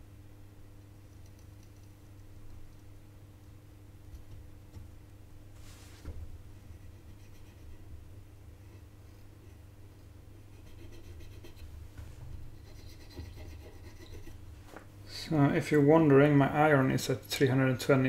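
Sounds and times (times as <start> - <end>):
low hum: 0.0 - 17.3.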